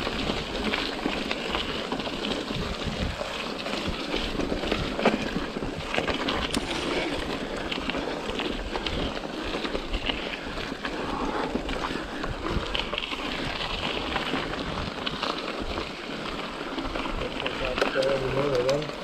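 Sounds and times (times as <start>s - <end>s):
clicks and knocks from bike: 0.0s - 11.0s, 11.6s - 19.0s
bike tyres rolling on trail: 0.0s - 19.0s.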